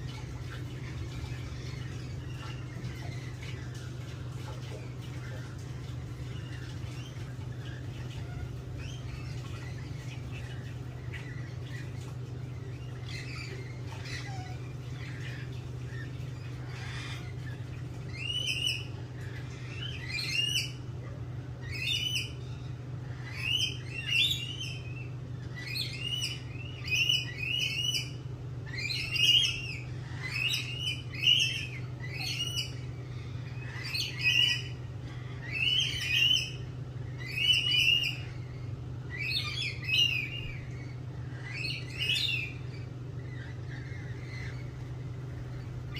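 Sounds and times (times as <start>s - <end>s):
birds chirping: 0.0s - 45.9s
steady low hum: 0.0s - 45.9s.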